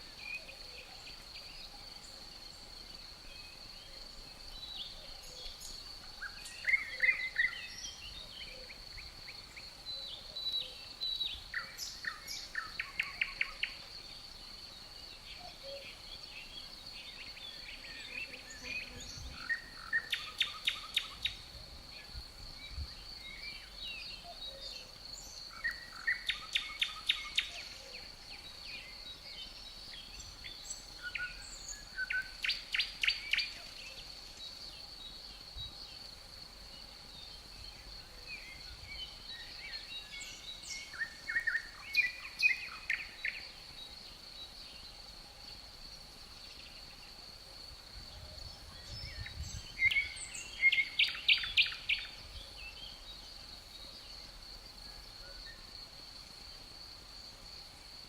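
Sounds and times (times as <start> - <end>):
crickets trilling: 0.0 - 58.0
songbird singing: 0.0 - 58.0.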